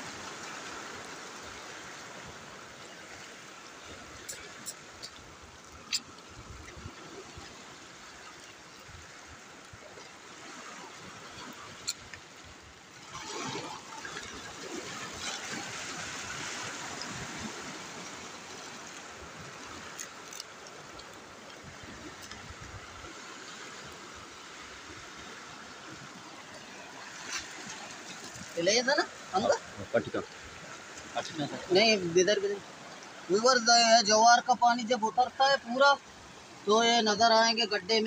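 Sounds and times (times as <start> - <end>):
water washing over rocks: 0.0 - 38.0.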